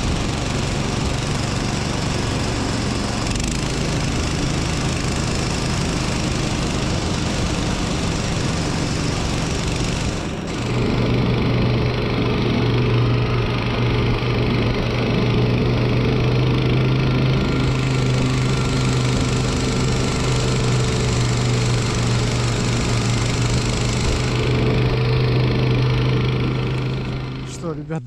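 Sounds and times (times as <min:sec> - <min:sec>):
snow tow engine running: 0:00.0 - 0:28.0.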